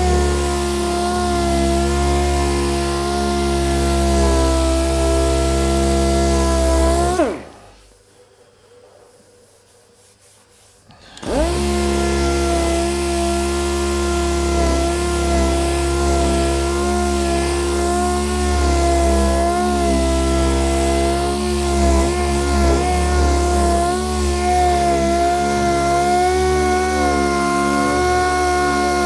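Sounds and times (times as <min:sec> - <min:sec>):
orbital sander running: 0:00.0 - 0:07.9, 0:11.1 - 0:29.0.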